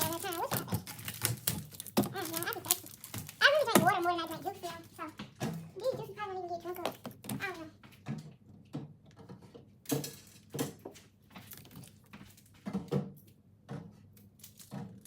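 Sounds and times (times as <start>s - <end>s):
groceries knocking and clunking: 0.0s - 15.0s.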